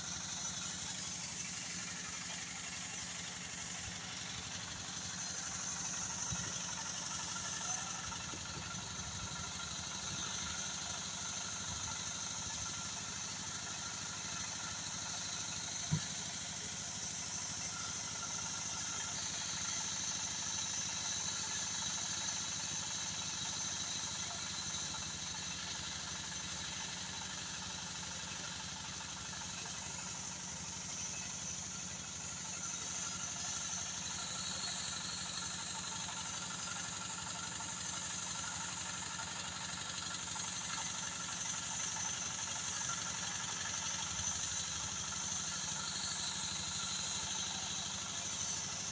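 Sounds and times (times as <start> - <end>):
saw machine running: 0.0 - 48.9.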